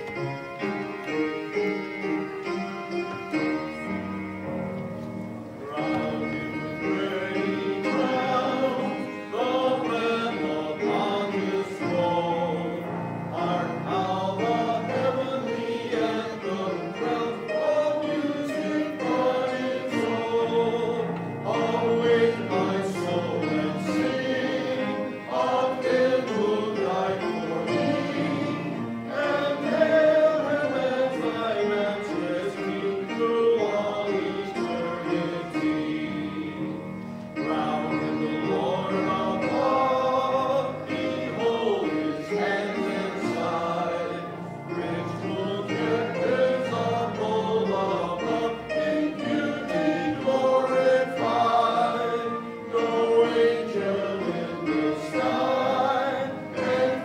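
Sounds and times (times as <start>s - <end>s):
congregation singing a hymn: 0.0s - 57.0s
piano accompaniment: 0.0s - 57.0s.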